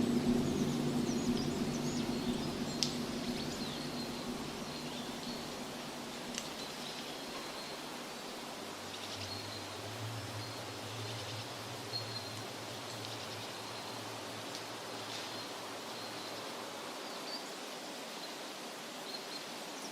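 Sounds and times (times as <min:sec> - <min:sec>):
faint low hum: 0:00.0 - 0:16.2
outdoor noise like rustling leaves: 0:00.0 - 0:19.9.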